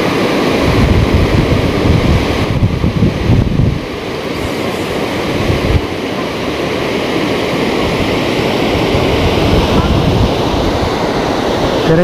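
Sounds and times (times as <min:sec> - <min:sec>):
water rushing over weir: 0:00.0 - 0:12.0
wind gust on microphone: 0:00.0 - 0:12.0.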